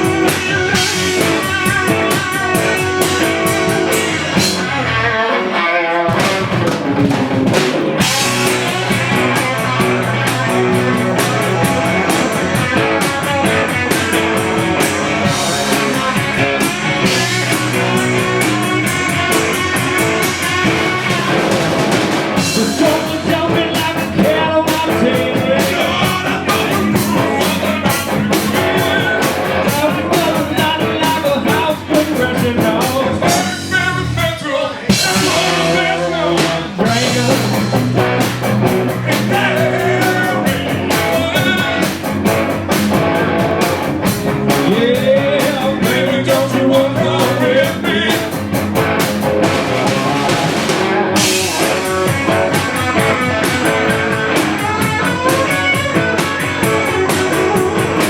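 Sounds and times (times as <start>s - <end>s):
person singing: 0.0s - 21.5s, 22.4s - 42.1s, 44.5s - 48.6s, 49.4s - 58.0s
blues rock band playing live: 0.0s - 58.0s
drum kit: 0.0s - 58.0s
electric guitar: 0.0s - 58.0s.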